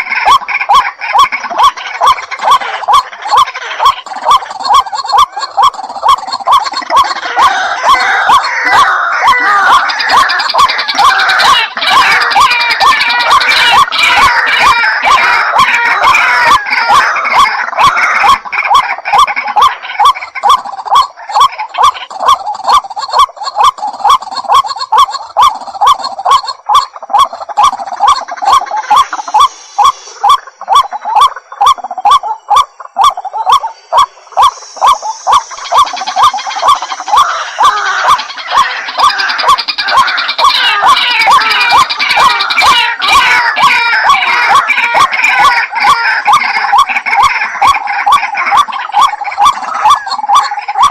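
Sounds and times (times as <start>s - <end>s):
waterhen calling: 0.0s - 50.9s.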